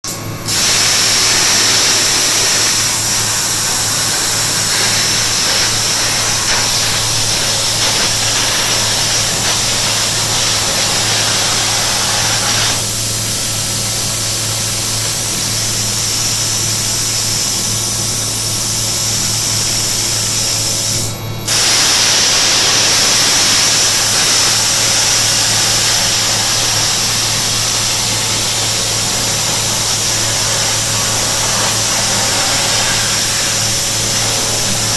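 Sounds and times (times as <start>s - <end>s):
plasma cutter hissing: 0.1s - 34.9s.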